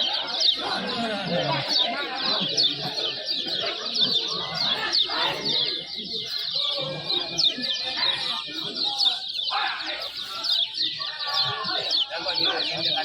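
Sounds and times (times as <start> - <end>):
birds chirping in chorus: 0.0 - 13.0
murmur of voices: 0.0 - 13.0.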